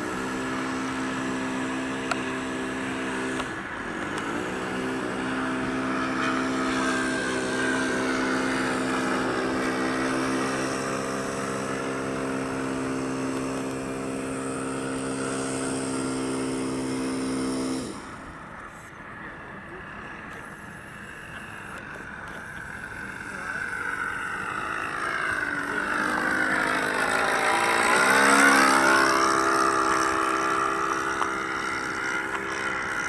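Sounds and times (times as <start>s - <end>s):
propeller plane engine drone: 0.0s - 33.0s.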